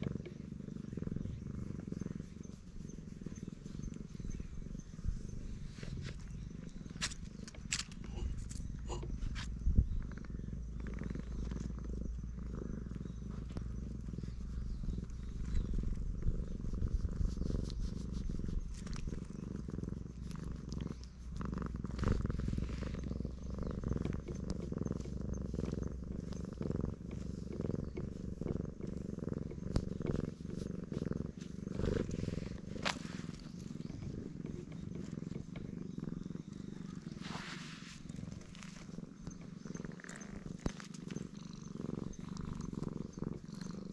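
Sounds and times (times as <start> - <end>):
cat purring loudly: 0.0 - 43.9
soft clicks and rustles: 5.5 - 16.3, 17.1 - 43.9.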